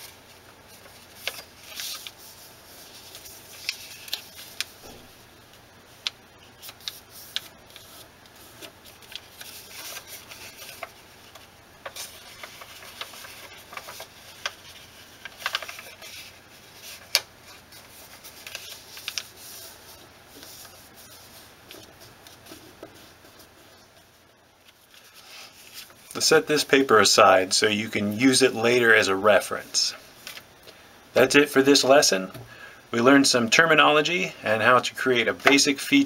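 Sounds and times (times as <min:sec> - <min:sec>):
paper crinkling as folded: 0:00.0 - 0:30.5.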